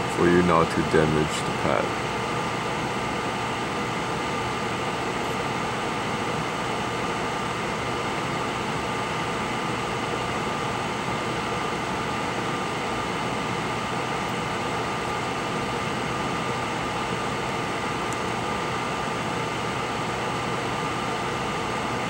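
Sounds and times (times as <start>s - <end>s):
fan hiss and hum with whine: 0.0s - 22.0s.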